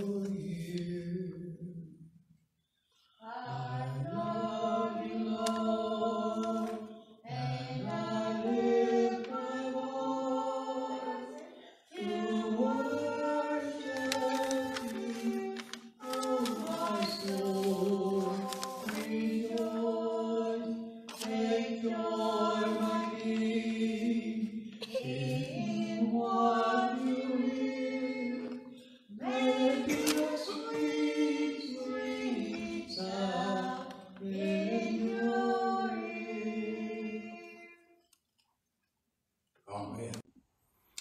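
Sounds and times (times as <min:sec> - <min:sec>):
group singing unaccompanied: 0:00.0 - 0:02.0, 0:03.1 - 0:37.9.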